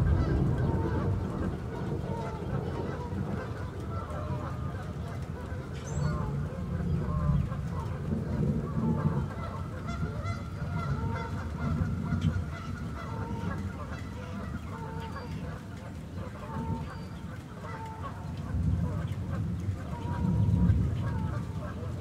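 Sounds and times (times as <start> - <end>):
rain falling on a lake: 0.0 - 22.0
waterfowl honking: 0.0 - 22.0.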